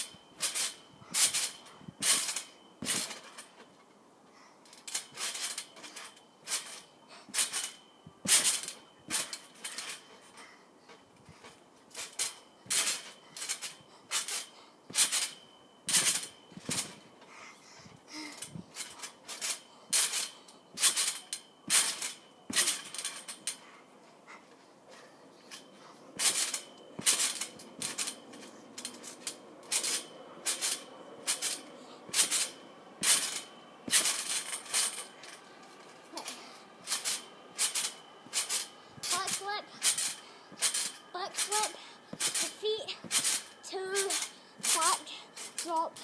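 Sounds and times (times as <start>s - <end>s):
trampoline springs rattling: 0.0s - 3.9s, 4.6s - 46.0s.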